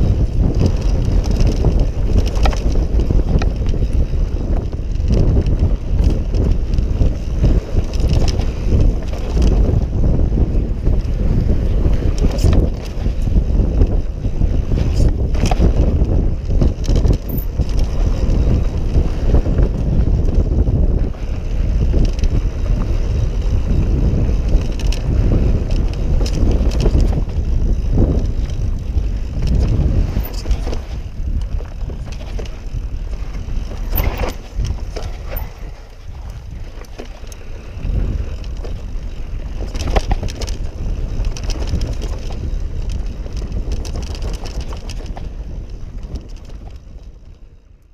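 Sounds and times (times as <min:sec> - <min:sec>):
bike knocks and rattles: 0:00.0 - 0:47.6
tyres rolling on loose dirt: 0:00.0 - 0:47.6
wind buffeting microphone: 0:00.0 - 0:47.9.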